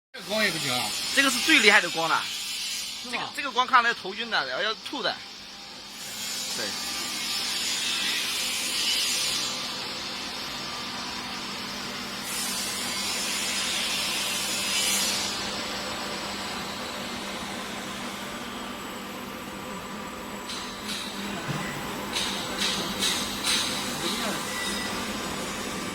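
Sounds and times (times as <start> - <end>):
welding arc hissing and crackling: 0.2 - 18.4, 20.4 - 21.4, 22.0 - 25.9.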